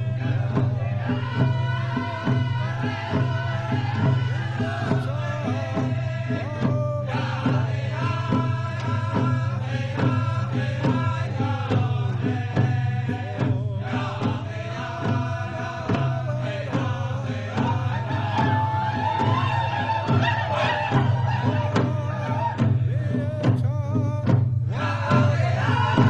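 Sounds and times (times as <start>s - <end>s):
group of voices chanting: 0.0s - 23.6s, 24.7s - 26.0s
hand drum beat: 0.0s - 26.0s.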